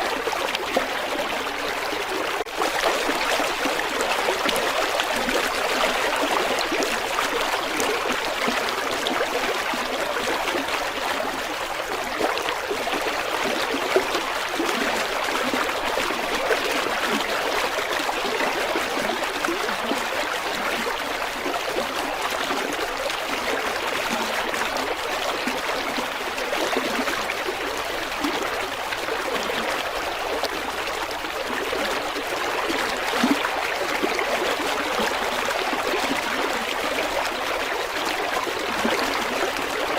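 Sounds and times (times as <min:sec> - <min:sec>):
stream burbling over rocks: 0:00.0 - 0:39.9.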